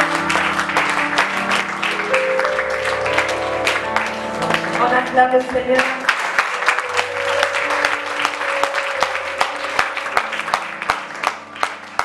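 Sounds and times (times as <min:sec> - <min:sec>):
congregation clapping: 0:00.0 - 0:12.0
held chords of background music: 0:00.0 - 0:12.0.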